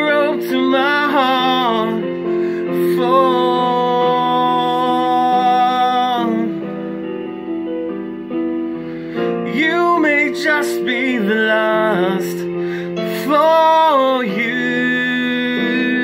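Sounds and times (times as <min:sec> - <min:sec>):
man singing: 0:00.0 - 0:07.0, 0:09.2 - 0:16.0
piano backing track: 0:00.0 - 0:16.0.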